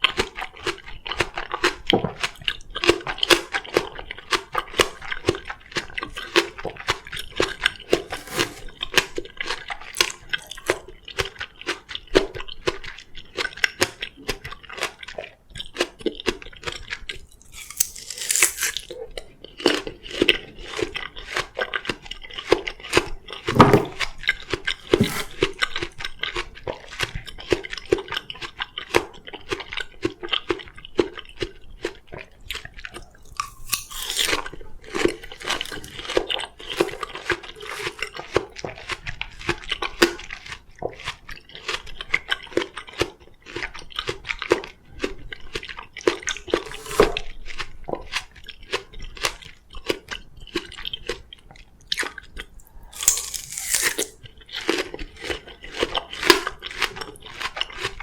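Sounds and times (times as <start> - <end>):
crunching and chewing melon: 0.0 - 58.0.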